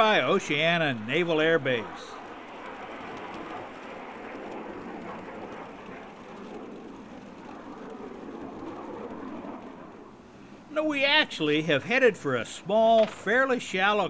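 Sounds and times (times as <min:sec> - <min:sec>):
distant jet flying over: 0:00.0 - 0:14.0.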